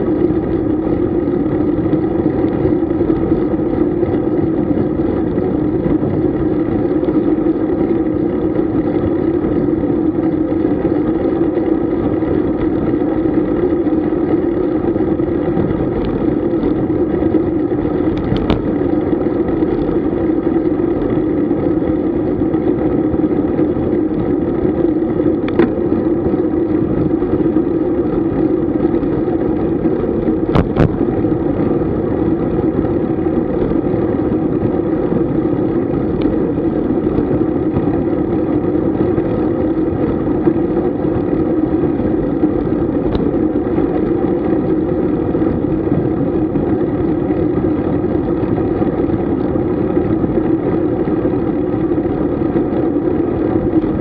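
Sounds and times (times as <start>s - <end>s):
wind and rolling noise of bicycle: 0.0s - 54.0s.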